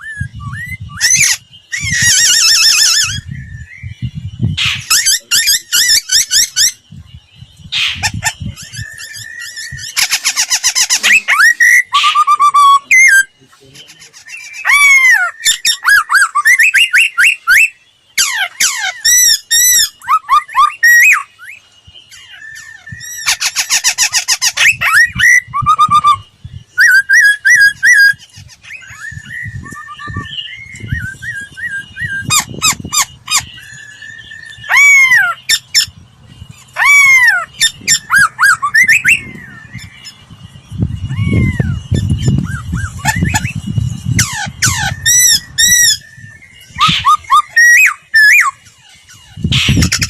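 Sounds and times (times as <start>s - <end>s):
bird fast trill: 0.0s - 50.0s
bird singing whistled phrases: 0.0s - 50.0s.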